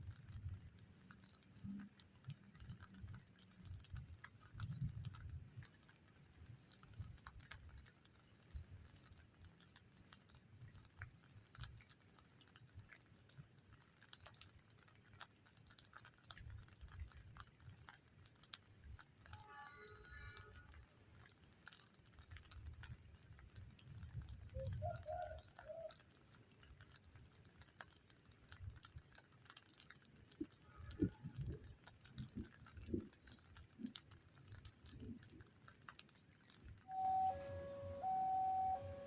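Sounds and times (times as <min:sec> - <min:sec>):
raindrops pattering: 0:00.0 - 0:39.0.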